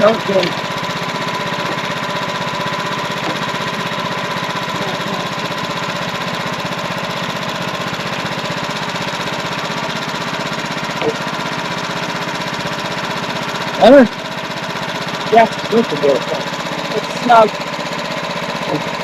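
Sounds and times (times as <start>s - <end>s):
sawmill engine running with whine: 0.0s - 19.0s.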